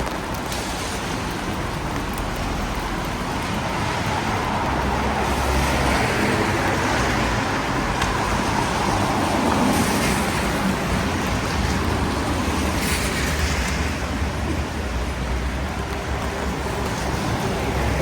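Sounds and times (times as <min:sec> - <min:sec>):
car engines: 0:00.0 - 0:18.0
tyres hissing on wet road: 0:00.0 - 0:18.0.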